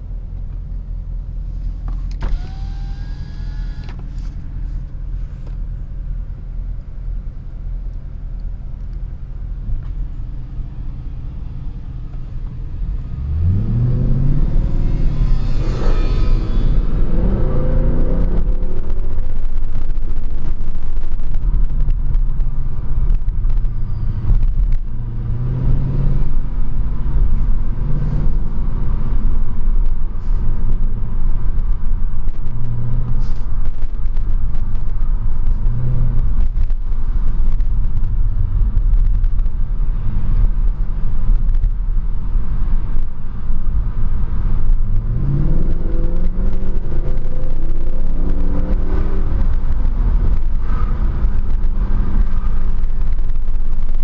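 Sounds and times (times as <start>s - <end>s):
car engine running: 0.0s - 54.0s
deep road rumble: 0.0s - 54.0s.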